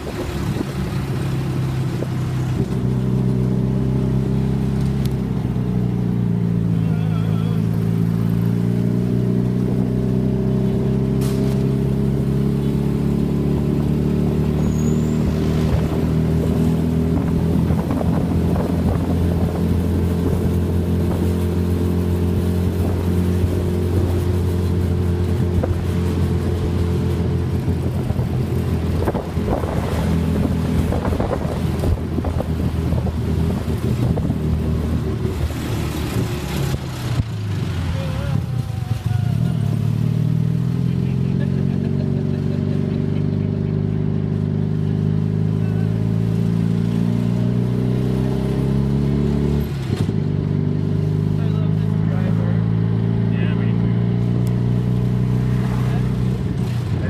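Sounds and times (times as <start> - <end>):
road noise: 0.0 - 57.0.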